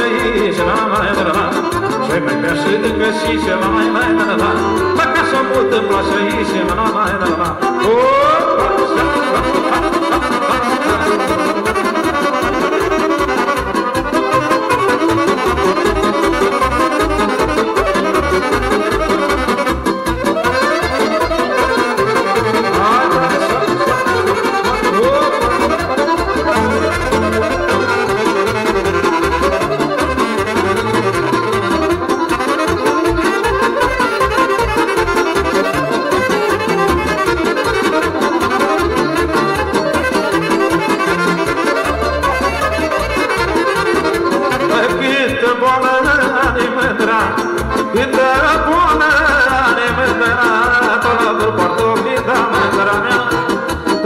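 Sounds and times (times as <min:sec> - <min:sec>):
folk band playing: 0:00.0 - 0:54.0.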